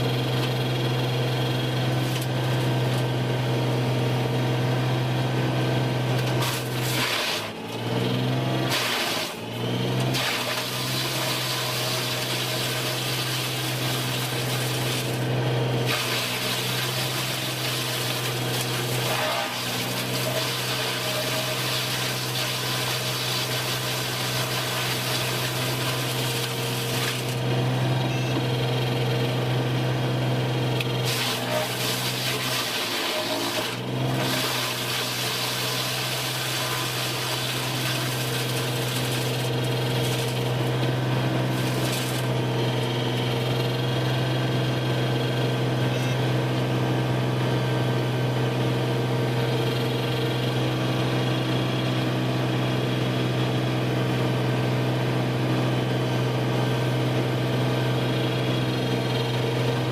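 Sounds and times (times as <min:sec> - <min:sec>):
wood-processing machinery humming: 0:00.0 - 0:59.9.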